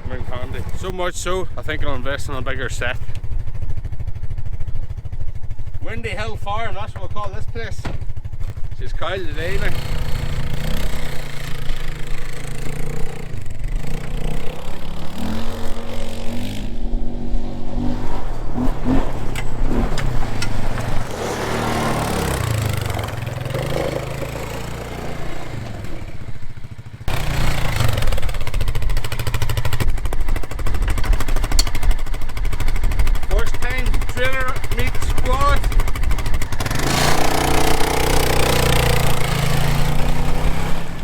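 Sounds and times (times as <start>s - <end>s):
quad bike engine running: 0.0s - 41.0s.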